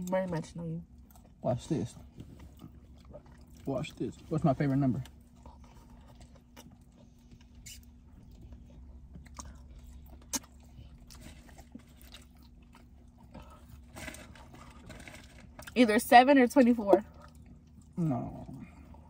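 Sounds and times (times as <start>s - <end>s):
chewing french fries: 0.0s - 16.0s, 16.6s - 19.0s
faint low hum: 0.0s - 19.0s.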